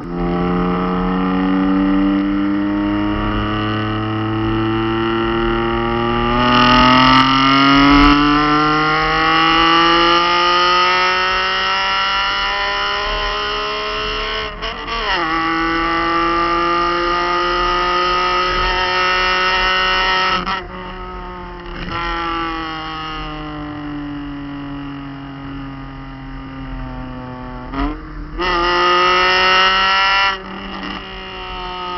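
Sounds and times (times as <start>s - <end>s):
car exhaust revving under load: 0.0s - 31.9s.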